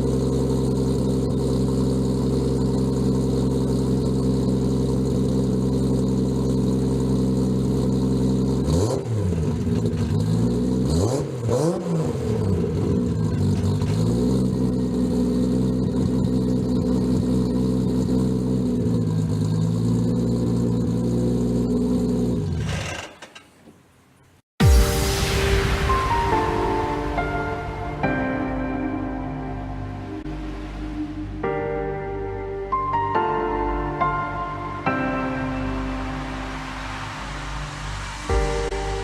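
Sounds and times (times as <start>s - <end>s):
car engine idling and revving: 0.0s - 24.4s, 27.1s - 39.0s.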